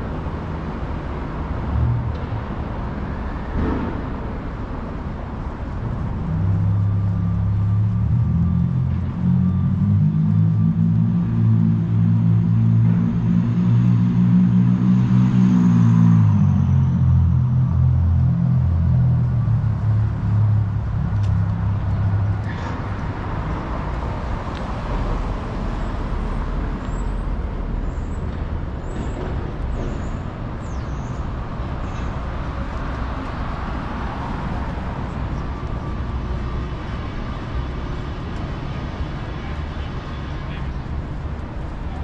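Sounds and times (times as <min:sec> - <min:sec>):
city street traffic: 0:00.0 - 0:42.0
vehicle engine drone: 0:00.0 - 0:42.0.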